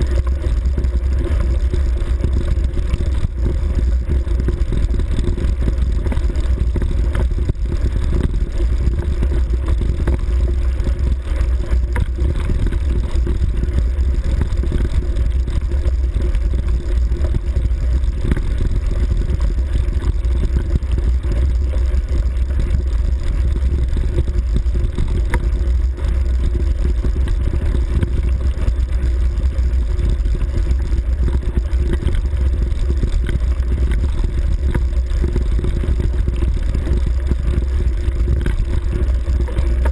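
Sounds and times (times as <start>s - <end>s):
vehicle engine running: 0.0s - 39.9s
wind rumble on microphone: 0.0s - 39.9s.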